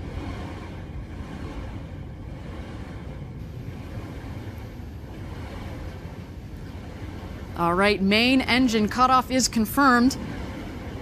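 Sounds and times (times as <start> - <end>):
rocket engine rumbling: 0.0 - 11.0.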